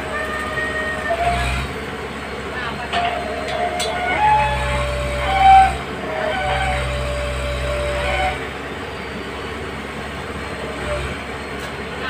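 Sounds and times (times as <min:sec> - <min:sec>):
diesel engine running: 0:00.0 - 0:12.0
hydraulic whine: 0:00.0 - 0:12.0.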